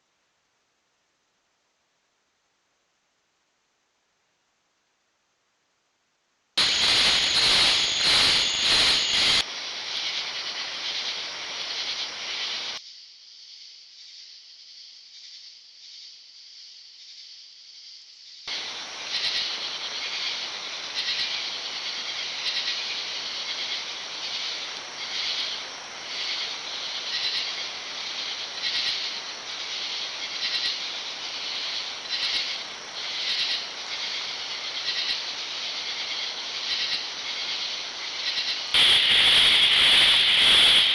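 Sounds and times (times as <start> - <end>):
high-pitched hiss: 6.6 - 40.9.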